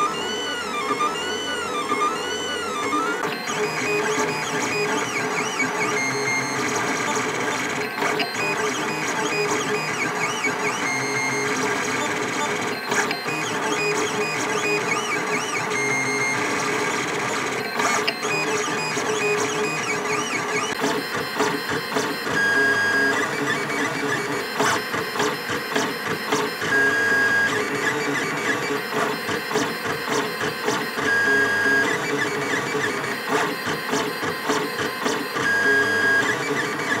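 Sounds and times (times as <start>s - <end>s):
stepper motors whining: 0.0s - 37.0s.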